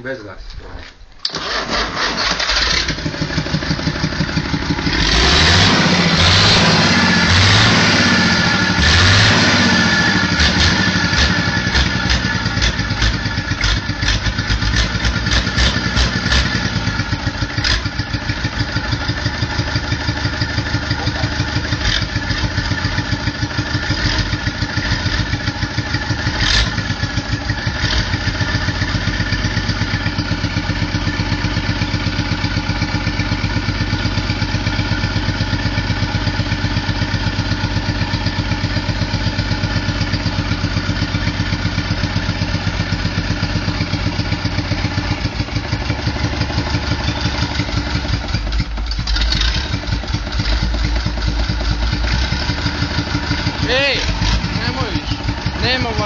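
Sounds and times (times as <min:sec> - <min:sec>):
tractor engine revving and clattering: 0:01.2 - 0:56.0.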